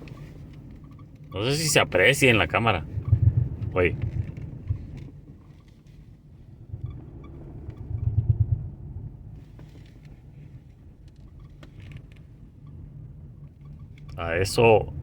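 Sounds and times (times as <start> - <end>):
car driving with low rumble: 0.0 - 15.0.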